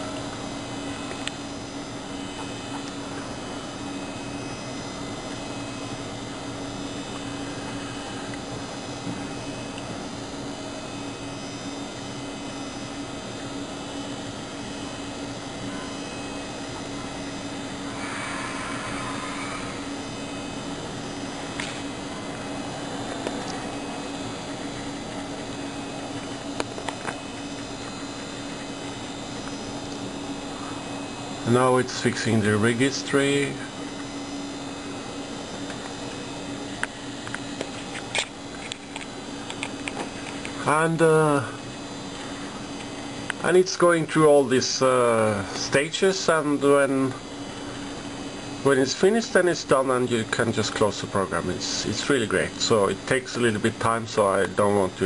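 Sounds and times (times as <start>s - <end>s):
computer hum and fan hiss: 0.0s - 55.0s.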